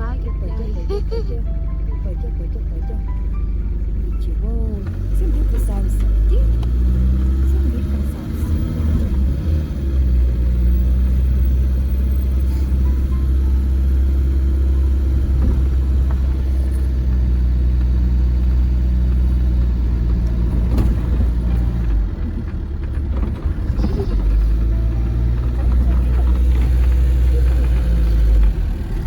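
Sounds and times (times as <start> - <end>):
car engine rumble: 0.0 - 29.0
road noise: 0.0 - 29.0.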